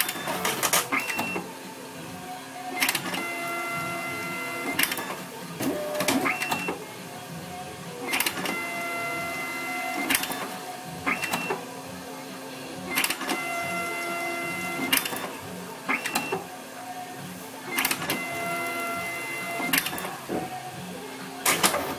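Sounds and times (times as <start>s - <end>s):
card printer motors whirring: 0.0s - 1.5s, 2.2s - 6.9s, 7.9s - 11.7s, 12.8s - 16.6s, 17.2s - 21.9s.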